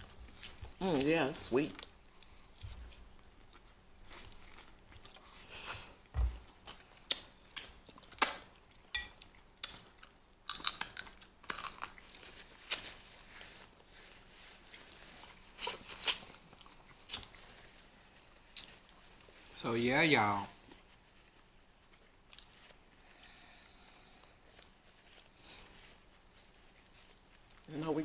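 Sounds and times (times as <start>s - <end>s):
chewing: 0.0s - 1.1s, 1.7s - 19.5s, 20.6s - 27.7s.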